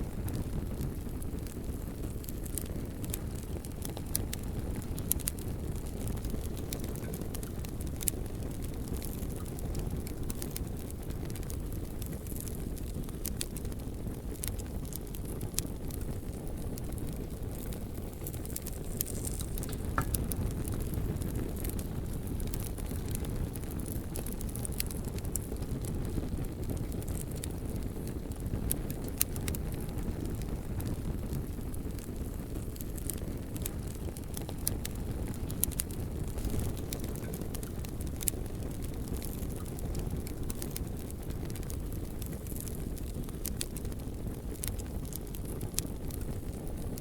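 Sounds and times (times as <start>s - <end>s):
bonfire low rumble: 0.0s - 47.0s
burning wood crackles and pops: 0.0s - 47.0s.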